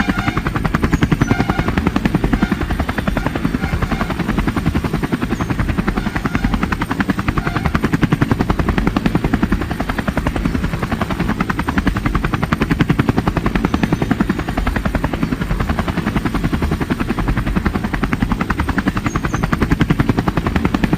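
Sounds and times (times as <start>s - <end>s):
helicopter rotor blades chopping: 0.0s - 20.9s.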